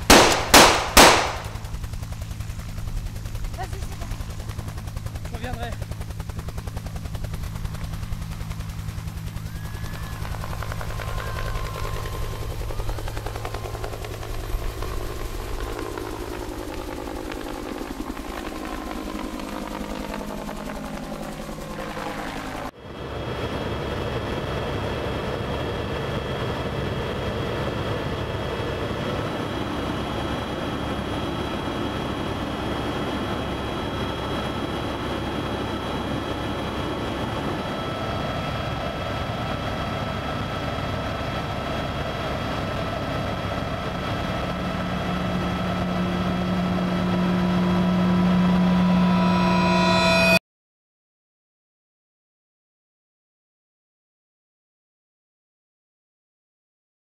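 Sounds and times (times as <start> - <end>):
helicopter cabin engine noise: 0.0 - 50.4
helicopter rotor chop: 0.0 - 50.4
turbine whine: 0.0 - 50.4.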